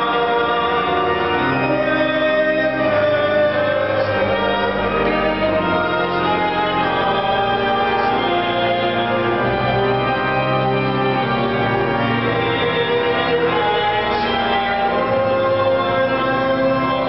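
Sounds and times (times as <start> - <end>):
pipe organ sustained chords: 0.0 - 17.0.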